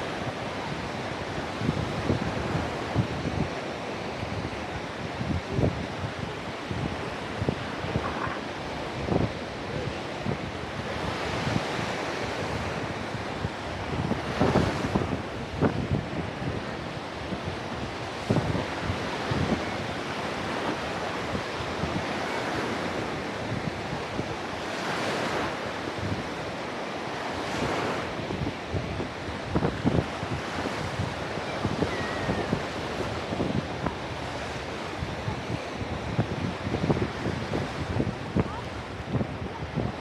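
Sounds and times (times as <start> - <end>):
sea waves breaking on a beach: 0.0 - 40.0
wind buffeting microphone: 0.0 - 40.0.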